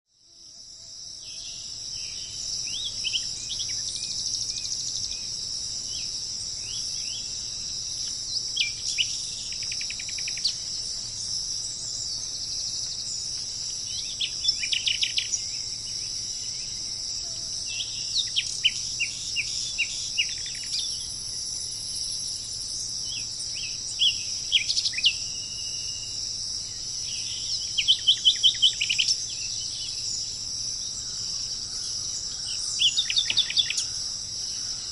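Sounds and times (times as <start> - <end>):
high insect chorus: 0.1 - 34.9
bird chirping: 1.2 - 34.9.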